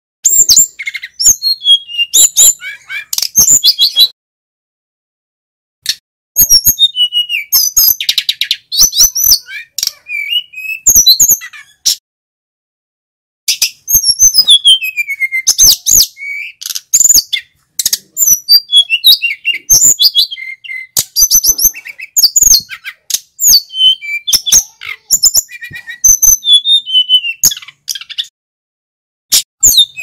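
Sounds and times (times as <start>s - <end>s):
bird singing whistled notes: 0.2s - 4.1s, 6.4s - 11.5s, 13.5s - 28.3s, 29.6s - 30.0s.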